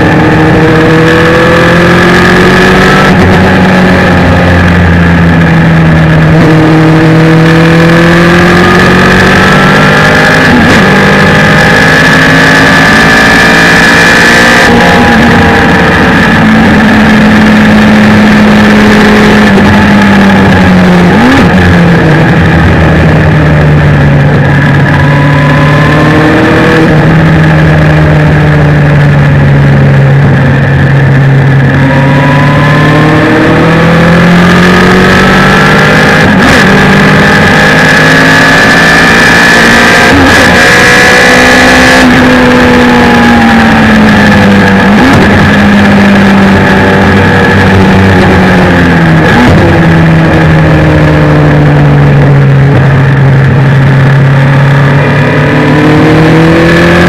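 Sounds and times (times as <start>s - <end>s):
motorcycle engine revving high: 0.0s - 57.0s.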